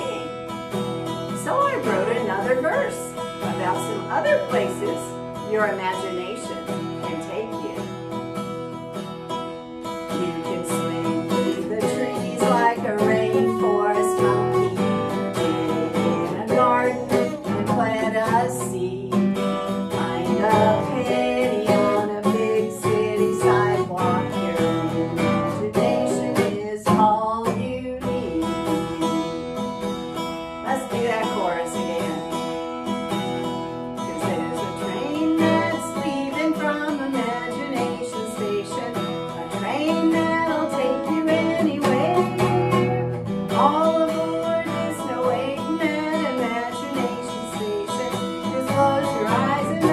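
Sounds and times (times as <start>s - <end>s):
woman singing: 0.0s - 8.2s, 9.9s - 49.9s
acoustic guitar strumming: 0.0s - 49.9s.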